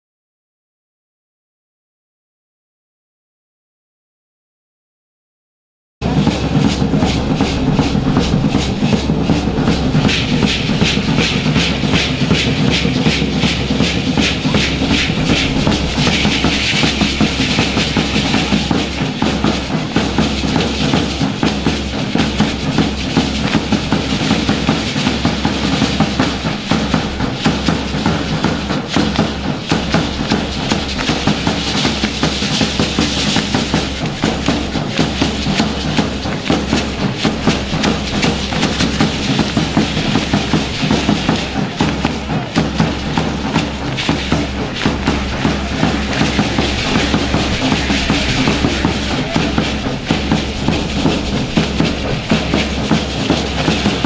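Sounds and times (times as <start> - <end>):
drum steady beat: 6.0 - 54.0.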